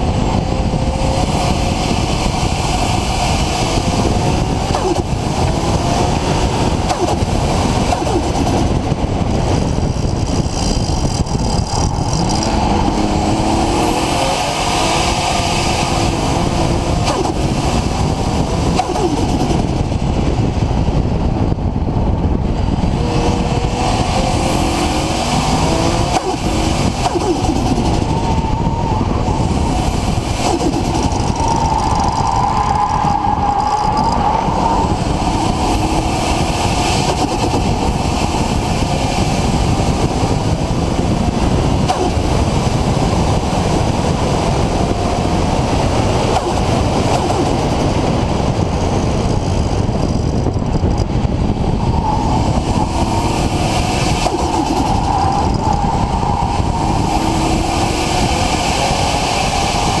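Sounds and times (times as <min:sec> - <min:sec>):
turbocharged engine running: 0:00.0 - 1:00.0.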